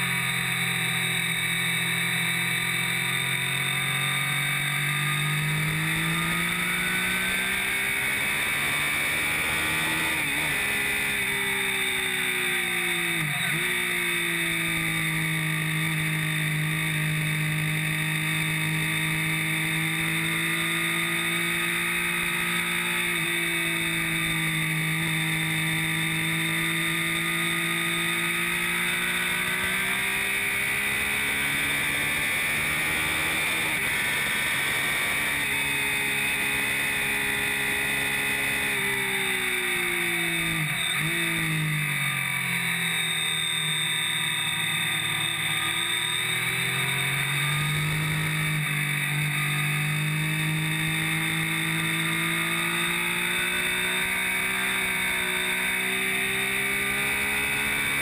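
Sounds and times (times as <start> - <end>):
motorcycle engine pulling hard: 0.0 - 58.0.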